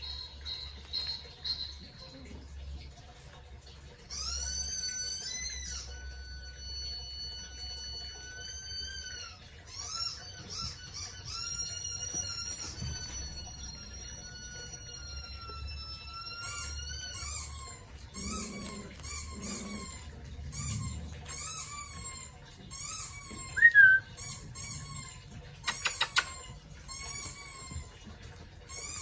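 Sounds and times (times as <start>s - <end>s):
puppies whining: 0.0s - 29.0s
puppy yelp: 4.0s - 29.0s.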